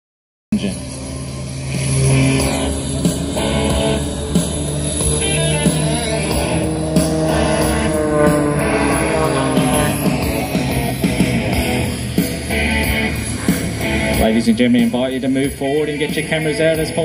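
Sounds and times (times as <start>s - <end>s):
rock music: 0.5s - 17.0s.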